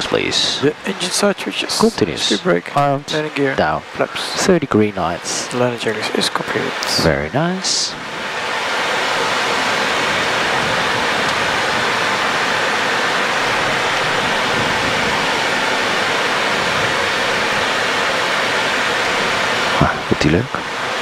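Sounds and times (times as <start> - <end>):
steady rushing airflow noise: 0.0 - 21.0.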